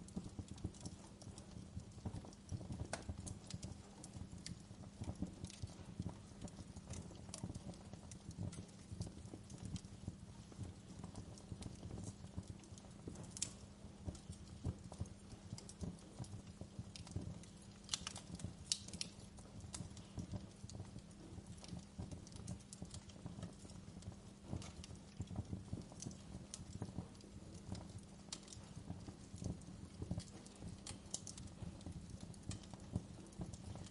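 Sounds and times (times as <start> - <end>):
flames rumbling: 0.0 - 33.9
wood fire crackling and popping: 0.0 - 33.9.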